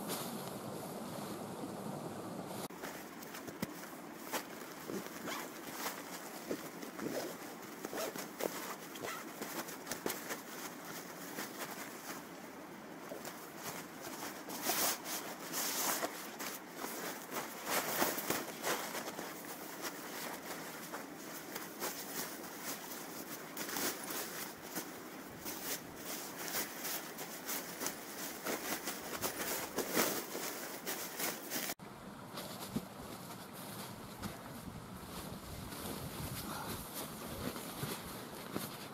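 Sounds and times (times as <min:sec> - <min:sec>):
steady hiss: 0:00.0 - 0:38.9
nylon bags rustling: 0:02.6 - 0:38.9.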